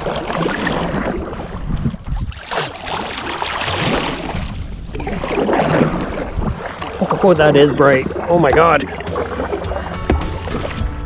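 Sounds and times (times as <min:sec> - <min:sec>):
water splashing around kayak: 0:00.0 - 0:11.0.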